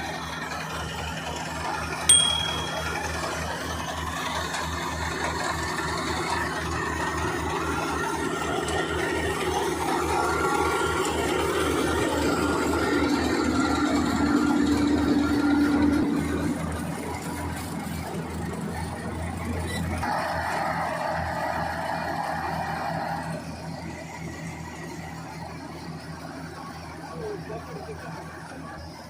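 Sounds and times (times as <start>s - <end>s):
combine harvester engine throb: 0.0s - 29.0s.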